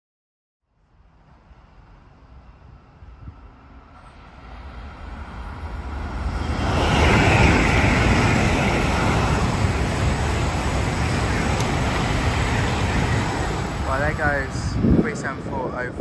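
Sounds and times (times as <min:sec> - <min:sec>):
high-speed trains passing: 0:00.7 - 0:16.0.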